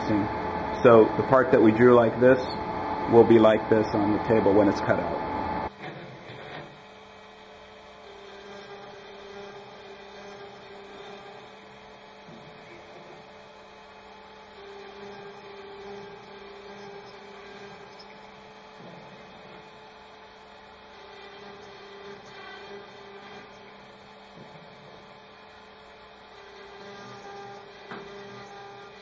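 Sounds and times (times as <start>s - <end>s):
router spindle cutting hum: 0.0s - 29.0s.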